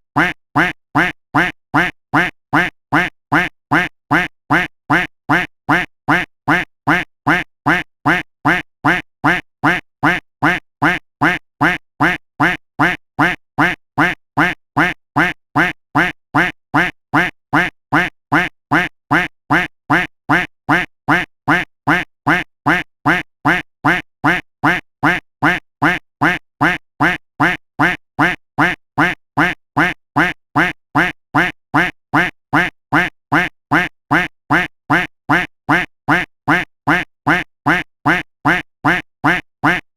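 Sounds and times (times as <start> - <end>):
duck quack sound effect: 0.1 - 39.9.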